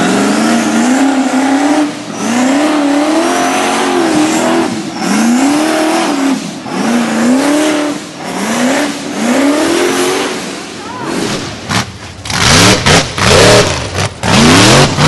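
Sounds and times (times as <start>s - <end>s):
buggy engine revving hard: 0.0s - 15.0s.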